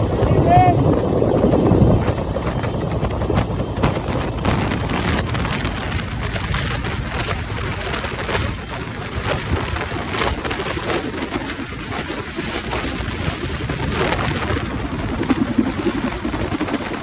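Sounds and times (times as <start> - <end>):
helicopter rotor noise: 0.0 - 17.0
low hum: 0.0 - 17.0
rotor wash buffeting microphone: 0.0 - 17.0.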